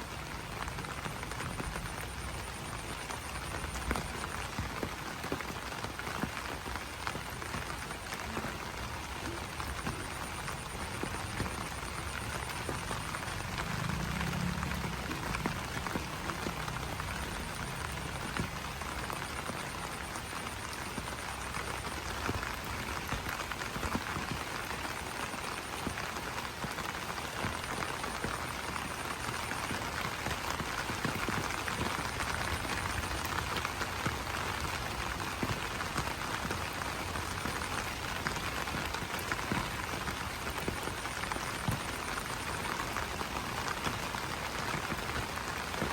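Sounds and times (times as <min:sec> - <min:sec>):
rain pattering on leaves: 0:00.0 - 0:45.9.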